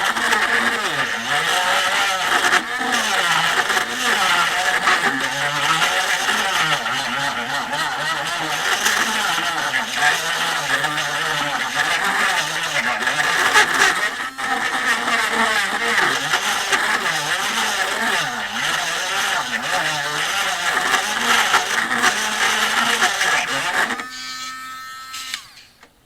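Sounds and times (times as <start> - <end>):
rotary tool grinding glue: 0.0 - 25.8.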